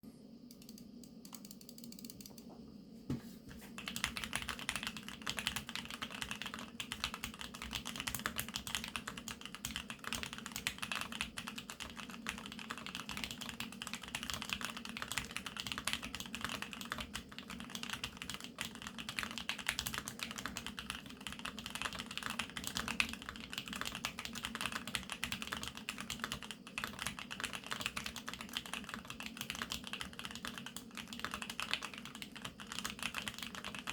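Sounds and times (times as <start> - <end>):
mechanical keyboard typing: 0.5 - 2.4, 3.8 - 33.9.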